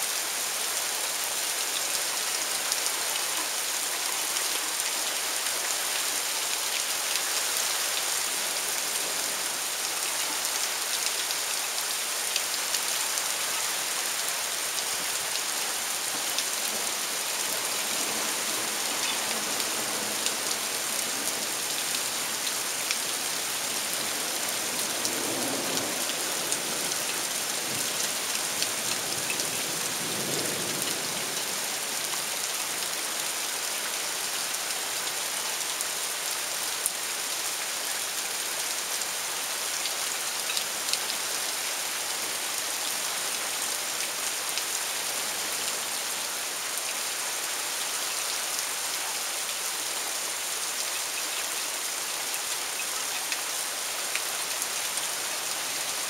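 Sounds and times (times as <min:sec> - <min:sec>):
steady heavy rain hiss: 0:00.0 - 0:56.0.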